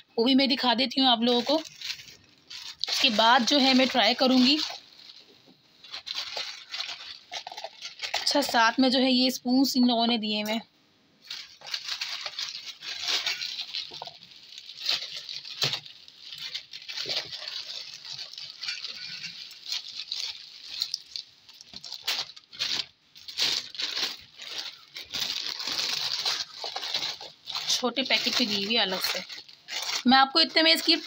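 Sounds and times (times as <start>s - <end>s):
plastic bag rustling: 0.4s - 9.0s, 11.2s - 31.0s.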